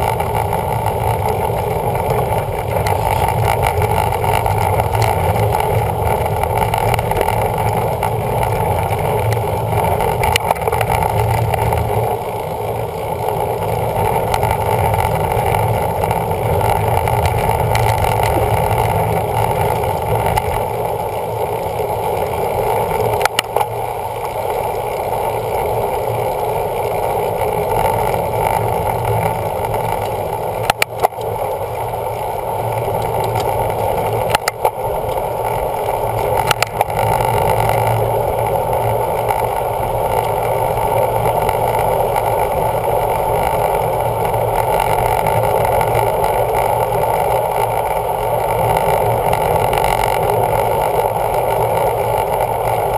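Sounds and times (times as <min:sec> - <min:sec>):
muffled wind rush: 0:00.0 - 0:52.9
road noise: 0:00.0 - 0:52.9.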